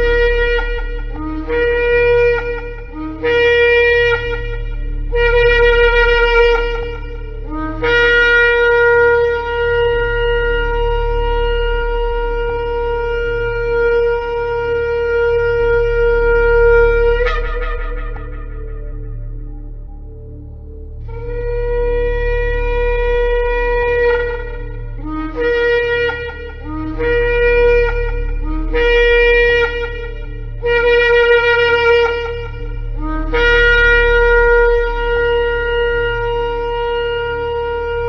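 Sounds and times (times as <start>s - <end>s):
shofar blasts: 0.0s - 20.2s, 21.0s - 38.0s
steady low hum: 0.0s - 38.0s.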